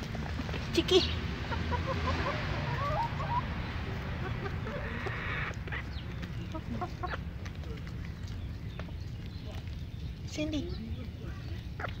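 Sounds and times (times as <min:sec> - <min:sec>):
chicks chirping and clucking: 0:00.0 - 0:12.0.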